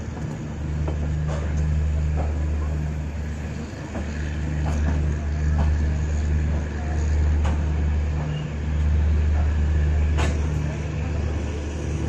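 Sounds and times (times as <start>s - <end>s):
train rumbling on board: 0.0s - 12.0s.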